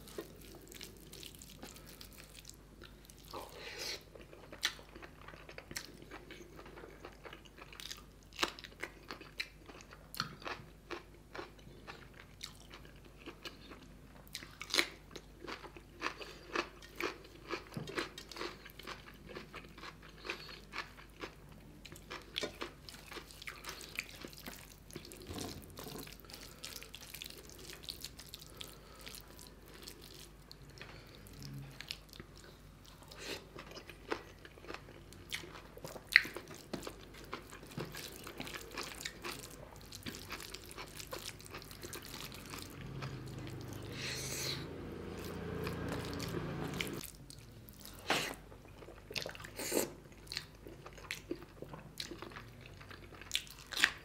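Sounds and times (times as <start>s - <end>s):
man chewing food: 0.0s - 54.0s.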